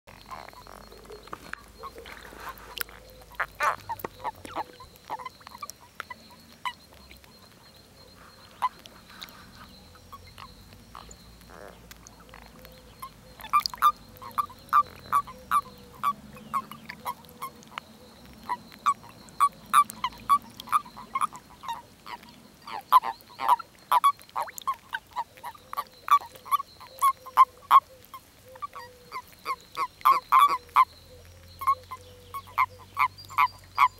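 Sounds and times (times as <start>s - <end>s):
toads croaking: 0.1s - 33.9s.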